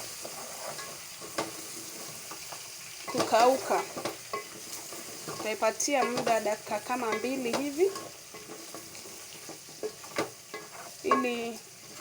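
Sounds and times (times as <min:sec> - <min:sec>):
meat and onions sizzling in oil: 0:00.0 - 0:12.0.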